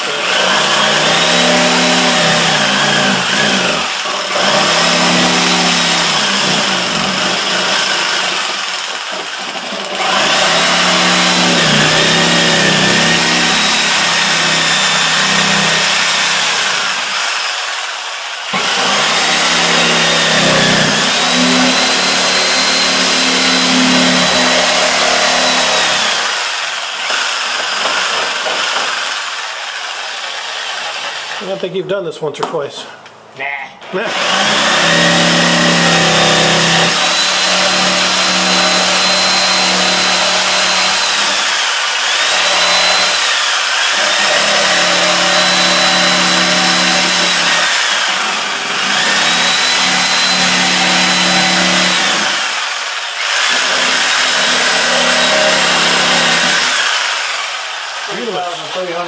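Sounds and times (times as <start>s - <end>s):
reciprocating saw cutting drywall: 0.0s - 31.8s, 33.8s - 59.0s.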